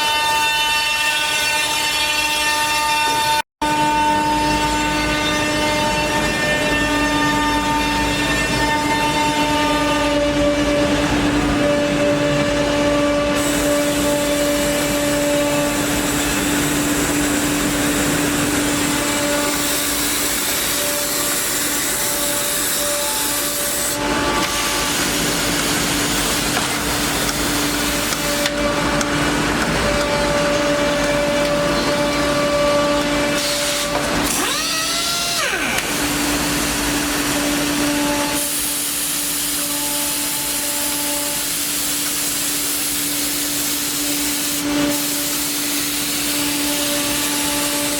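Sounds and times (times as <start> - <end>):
machine whine and hiss: 5.7 - 47.9.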